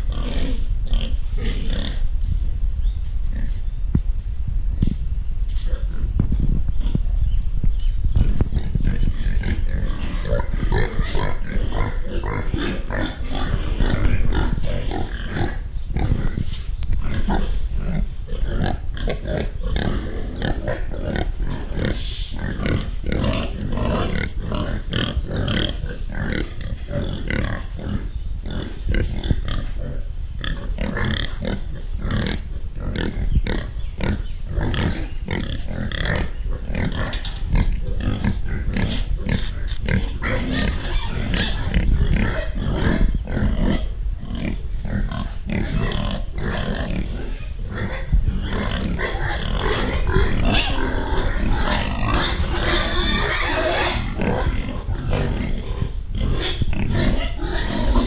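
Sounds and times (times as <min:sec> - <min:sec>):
steady low rumble: 0:00.0 - 0:52.7
pigs calling: 0:08.2 - 0:58.0.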